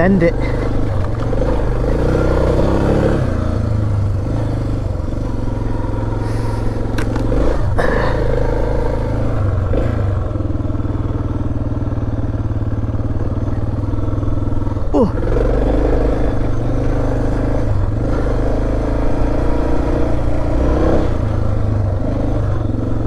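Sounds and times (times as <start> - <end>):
motorcycle engine under throttle: 0.0 - 23.0.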